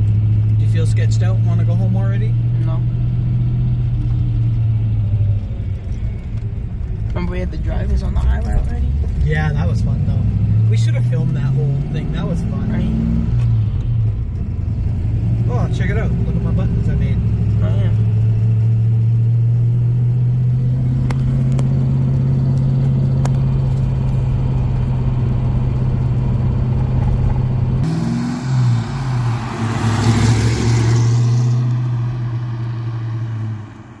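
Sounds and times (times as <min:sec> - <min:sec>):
car engine cruising: 0:00.0 - 0:34.0
car revving and passing: 0:00.0 - 0:34.0.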